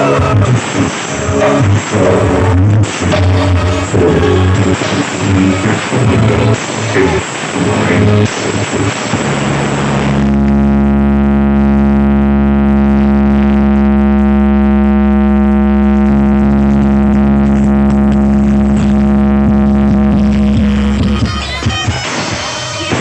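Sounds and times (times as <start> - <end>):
held droning tone: 0.0 - 21.2
heavy bass: 0.0 - 23.0
loud music from sound system: 0.0 - 23.0.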